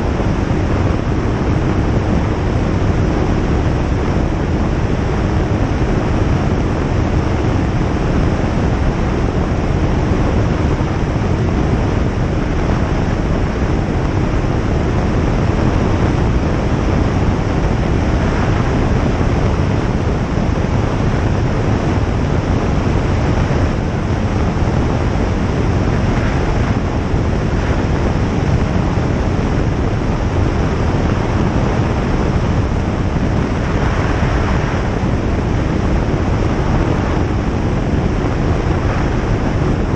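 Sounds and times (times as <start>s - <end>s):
airflow rushing: 0.0s - 39.9s
light aircraft engine and propeller: 0.0s - 39.9s.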